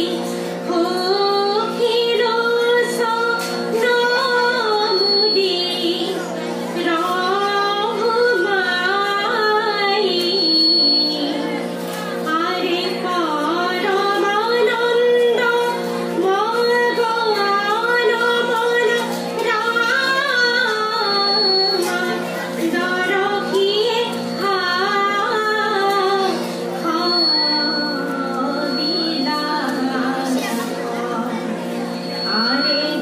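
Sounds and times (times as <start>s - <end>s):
harmonium holding steady notes: 0.0s - 33.0s
woman singing: 0.0s - 33.0s.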